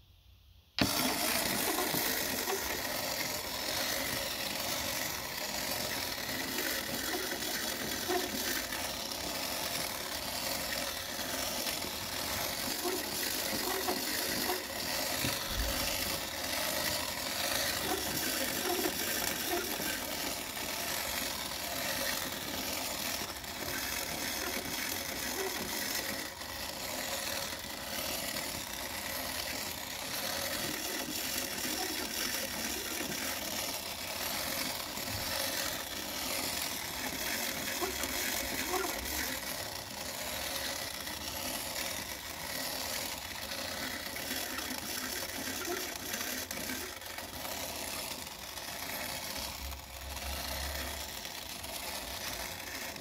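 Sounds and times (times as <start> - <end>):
clockwork toy whirring rattle: 0.8 - 53.0.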